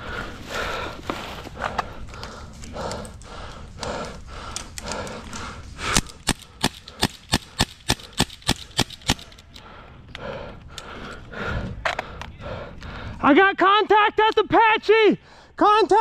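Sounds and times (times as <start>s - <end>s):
heavy rhythmic breathing: 0.0s - 13.2s.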